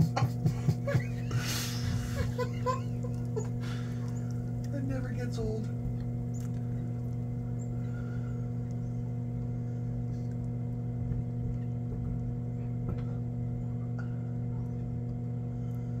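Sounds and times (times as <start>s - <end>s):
pump motor humming: 0.0s - 16.0s.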